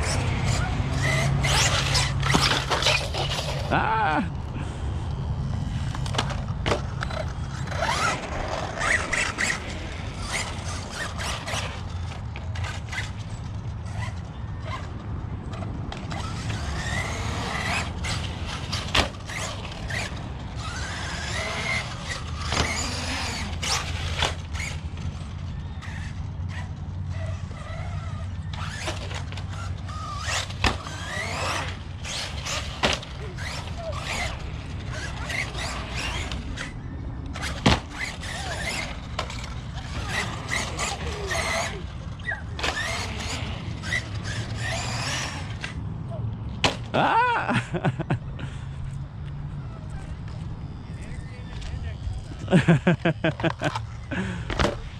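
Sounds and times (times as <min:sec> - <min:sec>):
rc car motor whine: 0:00.0 - 0:45.8, 0:49.0 - 0:54.9.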